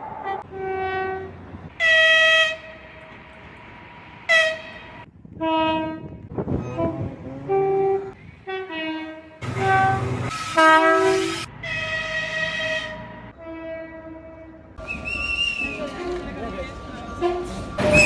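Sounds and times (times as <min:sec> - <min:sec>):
locomotive horns: 0:00.0 - 0:03.0, 0:04.3 - 0:18.0.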